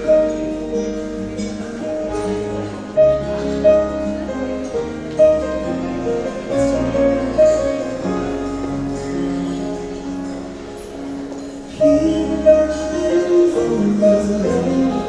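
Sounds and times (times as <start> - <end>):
band playing slow ballad: 0.0 - 15.0.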